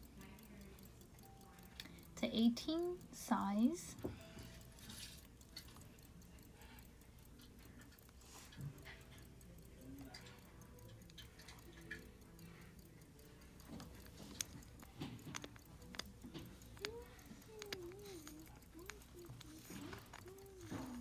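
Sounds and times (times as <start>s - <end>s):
pocket watch ticking: 0.0s - 21.0s.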